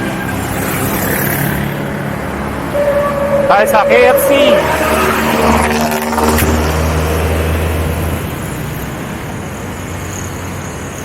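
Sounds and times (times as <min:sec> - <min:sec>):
road noise: 0:00.0 - 0:09.2.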